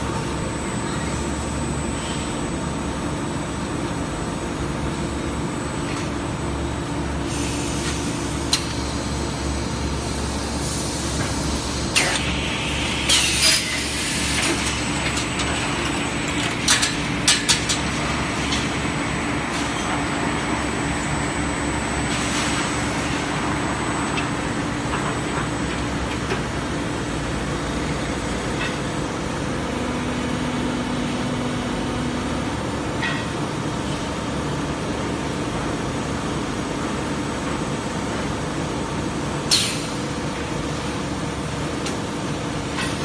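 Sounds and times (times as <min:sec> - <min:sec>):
machinery humming: 0:00.0 - 0:43.0.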